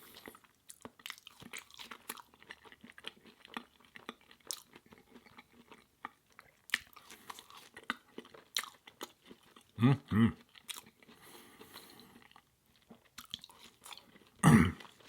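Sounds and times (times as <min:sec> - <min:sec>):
mouth chewing food: 0:00.0 - 0:15.0.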